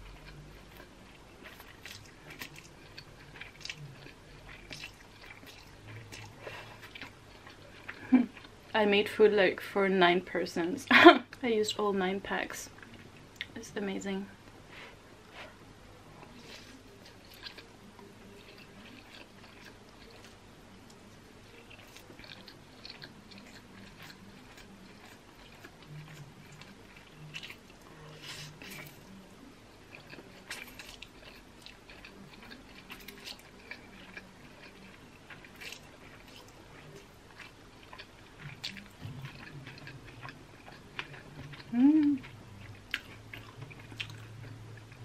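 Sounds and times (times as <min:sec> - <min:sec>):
chewing with wet smacks: 0:00.0 - 0:09.0, 0:12.3 - 0:13.6, 0:16.1 - 0:45.0.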